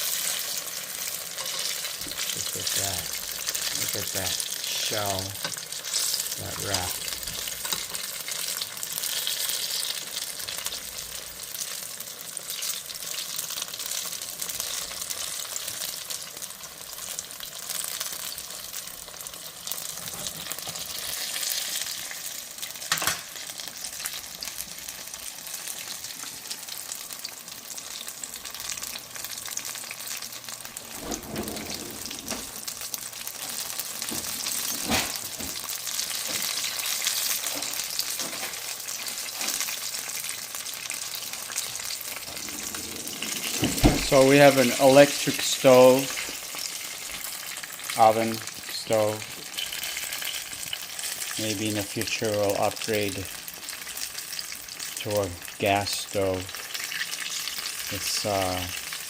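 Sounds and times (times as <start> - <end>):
rolls sizzling in hot oil: 0.0 - 59.0.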